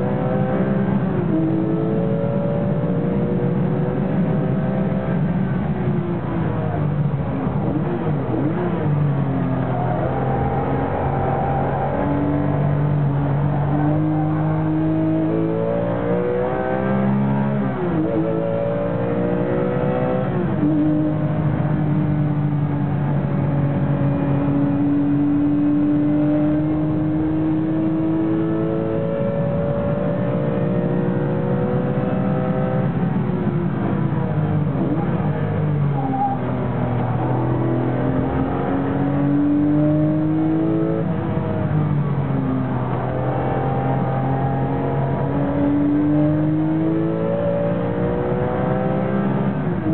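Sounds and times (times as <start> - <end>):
race car engine revving: 0.0 - 49.9.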